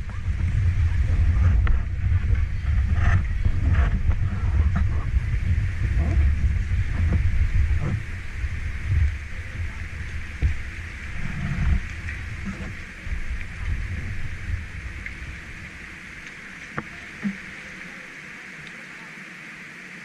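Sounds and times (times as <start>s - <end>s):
low rumbling on microphone: 0.0s - 18.2s
waterfall rushing: 0.0s - 20.0s.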